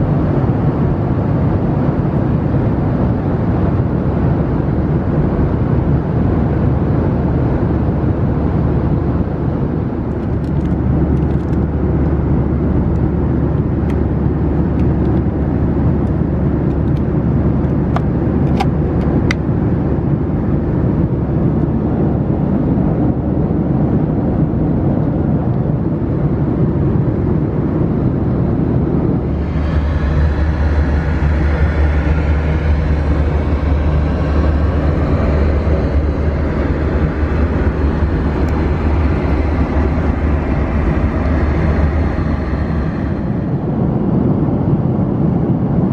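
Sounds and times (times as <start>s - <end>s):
airplane cabin engine drone: 0.0s - 45.9s.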